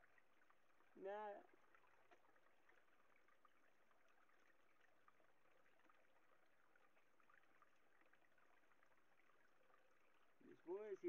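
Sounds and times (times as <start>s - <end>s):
small stream trickling: 0.0s - 11.0s.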